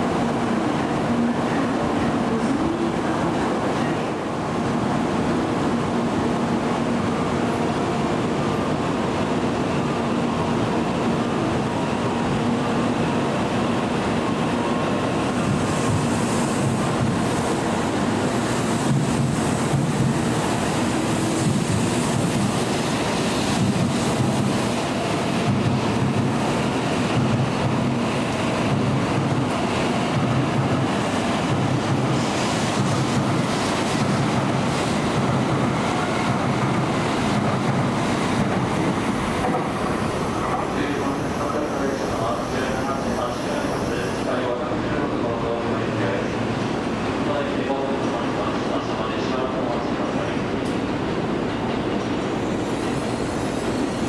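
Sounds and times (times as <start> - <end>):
train pulling out with low hum: 0.0 - 54.0.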